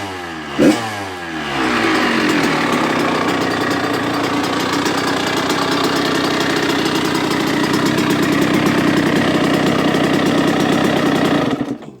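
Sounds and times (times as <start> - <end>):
motorbike engine idling: 1.2 - 12.0.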